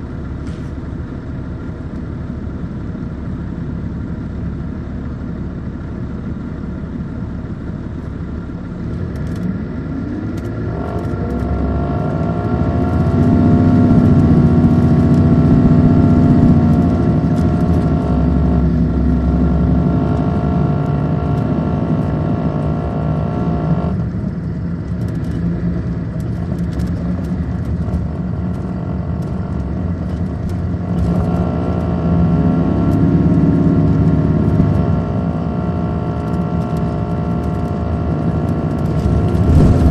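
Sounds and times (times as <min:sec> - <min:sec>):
diesel bus engine accelerating: 0:00.0 - 0:39.9.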